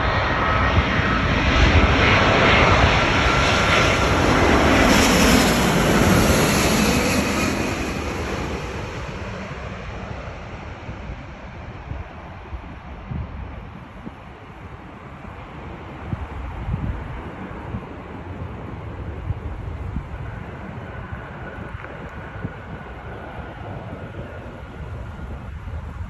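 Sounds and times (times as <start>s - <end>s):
faint jet whine: 0.0s - 26.0s
jet airliner passing: 0.0s - 26.0s.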